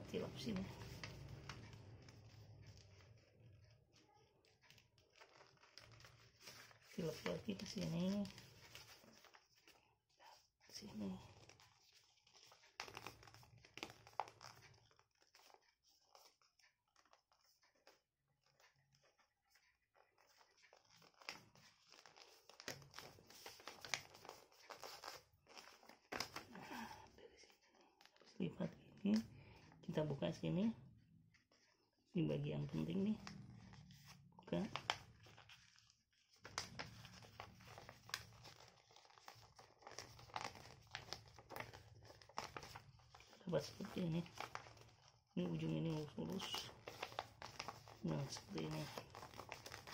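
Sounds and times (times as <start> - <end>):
paper crinkling and rustling: 0.0 - 29.7, 32.6 - 49.9.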